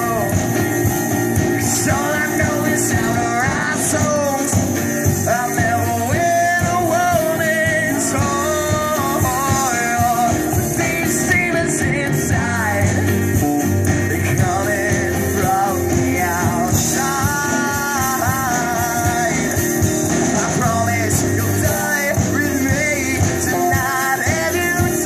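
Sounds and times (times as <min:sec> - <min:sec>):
live rock band playing: 0:00.0 - 0:25.0
person singing: 0:00.0 - 0:25.0.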